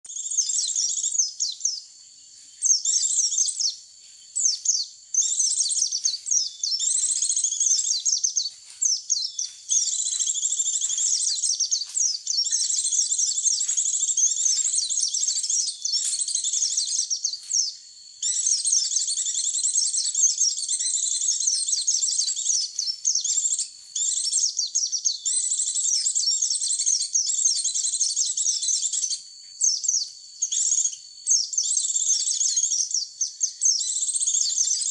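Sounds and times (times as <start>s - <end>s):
bird twittering and chirping: 0.0s - 34.9s.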